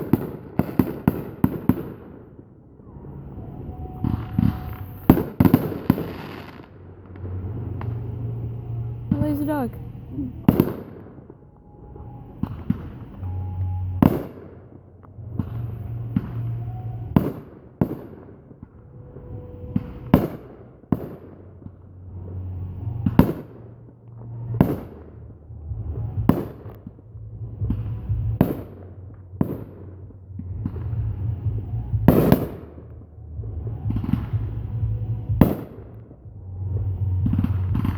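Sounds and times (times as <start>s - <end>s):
fireworks exploding with echo: 0.0s - 37.9s.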